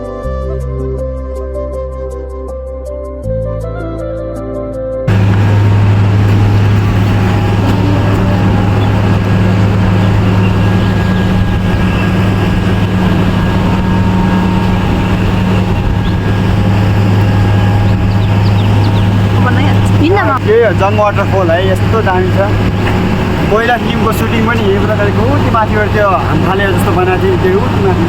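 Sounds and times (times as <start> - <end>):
low steady hum: 5.1 - 28.0
waterfall roaring: 5.1 - 28.0.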